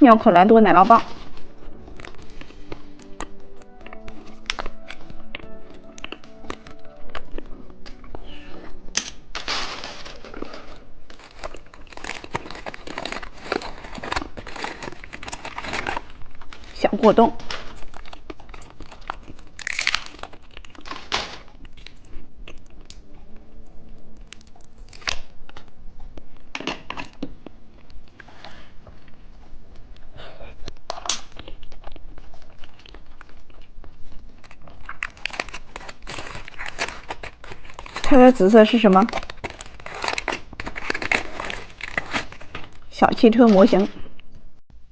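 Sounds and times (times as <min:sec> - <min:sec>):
plastic wrapper crinkling: 0:00.2 - 0:23.1, 0:24.2 - 0:29.2, 0:30.6 - 0:44.0.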